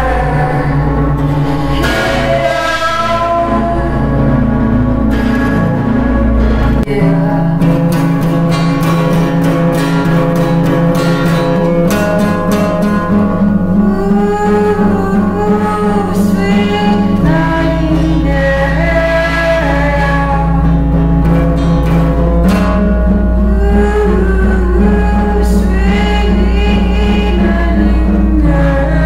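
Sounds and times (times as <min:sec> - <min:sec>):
person singing: 0:00.0 - 0:21.8, 0:22.5 - 0:29.0
low drone with slow melody: 0:00.0 - 0:29.0.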